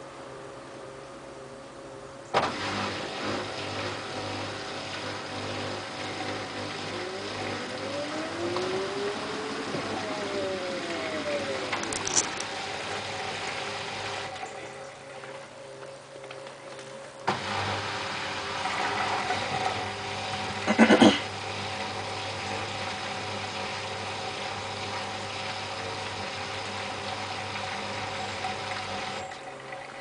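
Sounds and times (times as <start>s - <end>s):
motor whine: 0.0s - 30.0s
washing machine humming with water: 0.0s - 30.0s.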